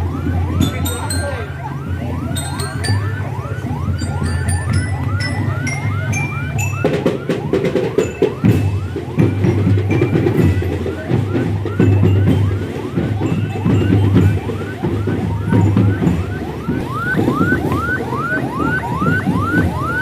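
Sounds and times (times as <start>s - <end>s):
rising siren-like chirp: 0.0s - 20.0s.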